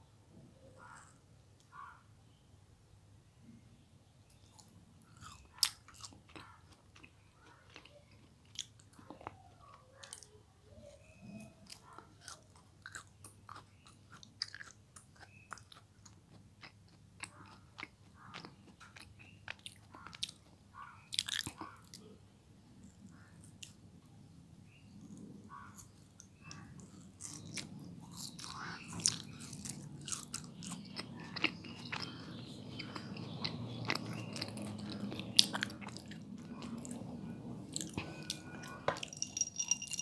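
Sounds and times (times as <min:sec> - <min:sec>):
child chewing: 0:04.4 - 0:10.4, 0:11.0 - 0:22.1, 0:25.0 - 0:40.0.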